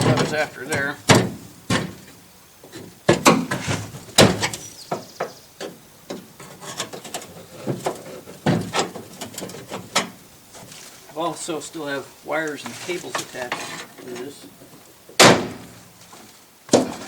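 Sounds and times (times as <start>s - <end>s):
metal knocks clunks and scrapes: 0.0s - 11.2s, 12.6s - 17.0s.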